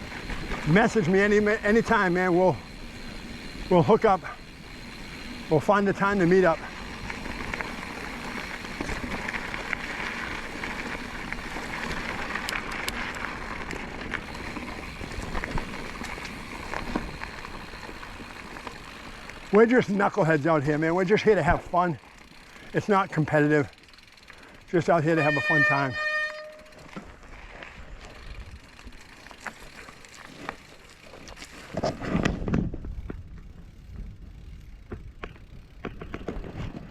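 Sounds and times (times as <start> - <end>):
tyres crunching on gravel and rock: 0.0 - 25.8, 26.6 - 33.5
bike clicks and rattles: 0.0 - 36.9.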